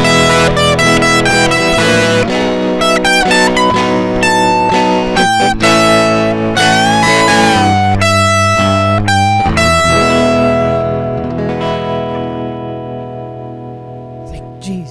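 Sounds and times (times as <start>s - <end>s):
electric guitar chords: 0.0s - 14.9s.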